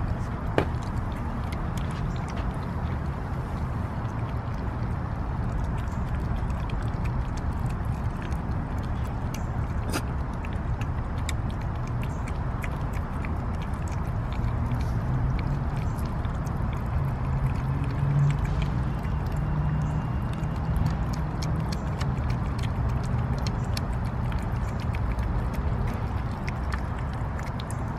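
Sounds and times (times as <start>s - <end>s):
cats chewing and lapping food: 0.0s - 27.9s
steady low rumble: 0.0s - 27.9s.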